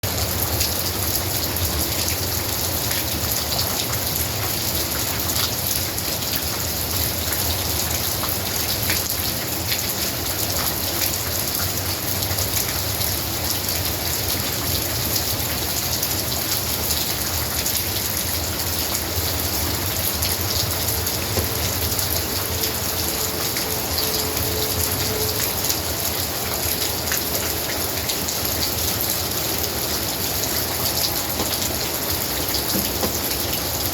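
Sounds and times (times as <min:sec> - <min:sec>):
raindrops ticking: 0:00.0 - 0:33.9
steady rain falling: 0:00.0 - 0:33.9.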